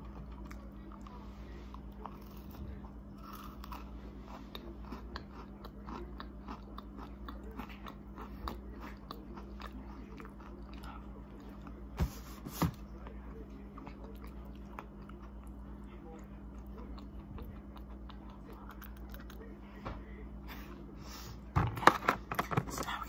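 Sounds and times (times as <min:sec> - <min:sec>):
sweets crunching while chewed: 0:00.0 - 0:20.6.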